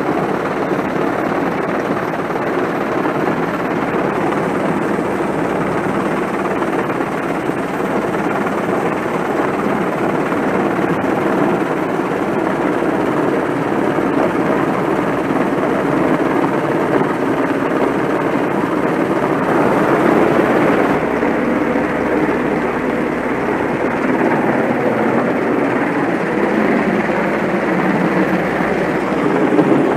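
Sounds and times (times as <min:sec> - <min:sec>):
helicopter hovering: 0:00.0 - 0:29.9
rotor downwash wind: 0:00.0 - 0:29.9.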